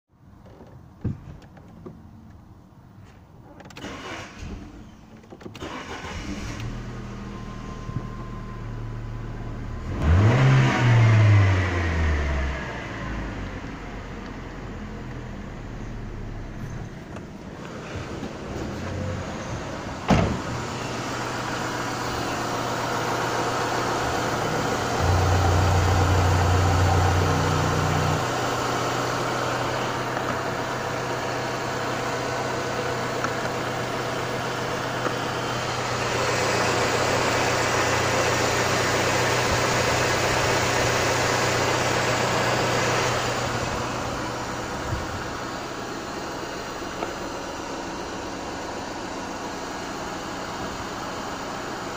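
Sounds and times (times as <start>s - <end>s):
car engine idling: 3.8s - 51.9s.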